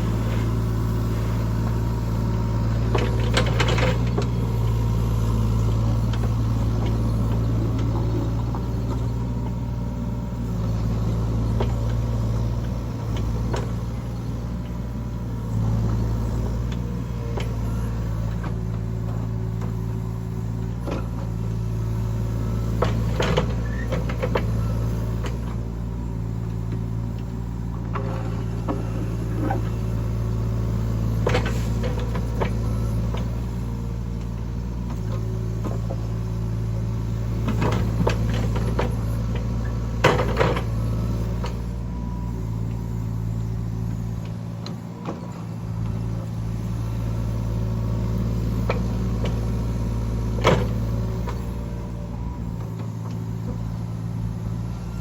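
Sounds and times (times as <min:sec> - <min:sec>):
heavy machine engine running: 0:00.0 - 0:55.0.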